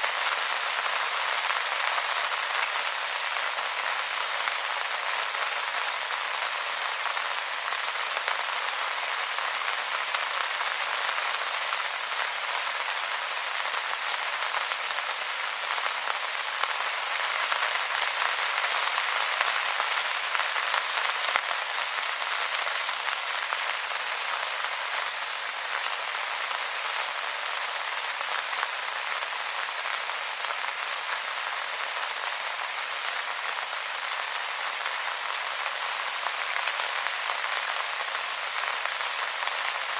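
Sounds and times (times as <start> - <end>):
rain falling on wet leaves: 0.0 - 39.9.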